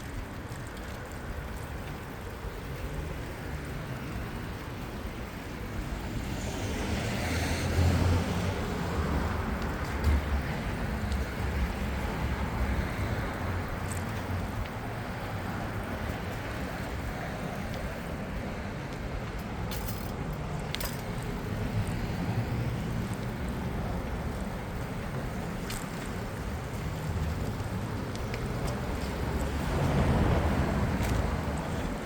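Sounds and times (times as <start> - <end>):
city traffic: 0.0 - 32.0
wind rumble: 0.0 - 32.0.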